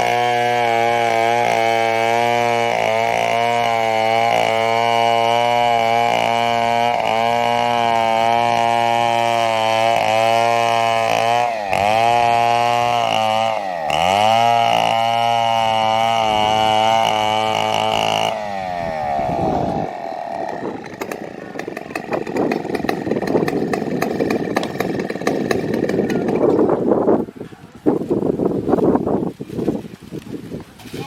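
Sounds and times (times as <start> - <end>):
chainsaw cutting at high revs: 0.0 - 27.2.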